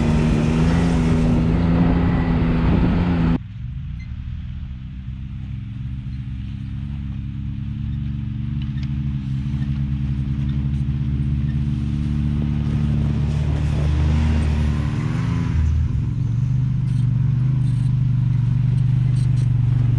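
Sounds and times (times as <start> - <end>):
engine running at low speed: 0.0 - 19.9.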